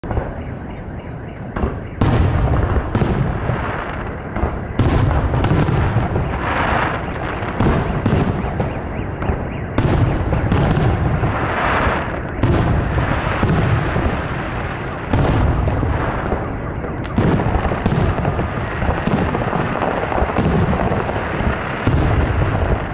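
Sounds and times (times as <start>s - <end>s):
firework shells booming: 1.4s - 22.9s.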